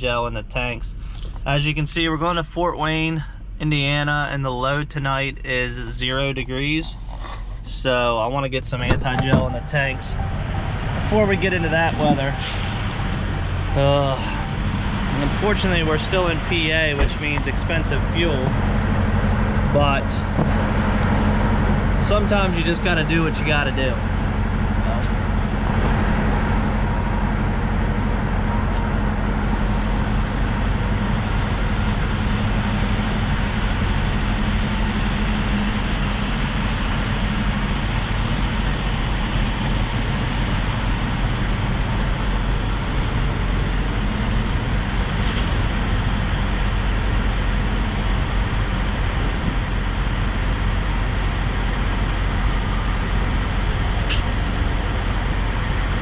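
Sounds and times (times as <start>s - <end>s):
diesel truck engine hum: 0.0s - 56.0s
road noise: 0.0s - 56.0s.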